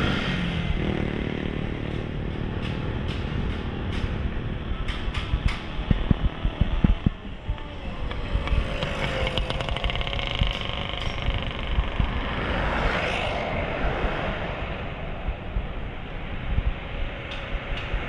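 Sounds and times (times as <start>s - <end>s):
vehicle passing loudly: 0.0s - 3.4s, 4.2s - 18.0s
road traffic: 0.0s - 18.0s
wind rumbling on microphone: 0.0s - 18.0s.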